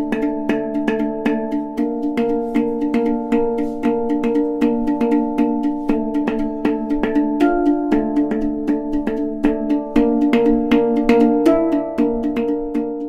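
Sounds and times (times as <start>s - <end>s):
percussive tapping beat: 0.0s - 13.0s.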